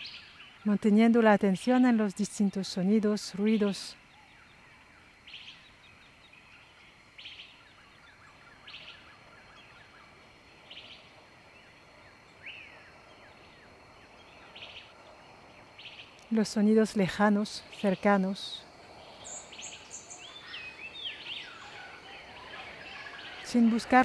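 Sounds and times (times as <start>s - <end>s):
birds chirping softly: 0.0s - 24.0s.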